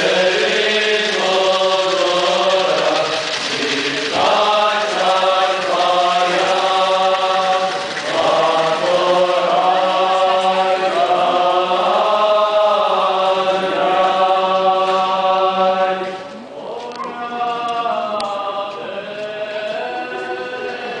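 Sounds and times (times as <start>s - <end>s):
men's choir chanting: 0.0s - 21.0s.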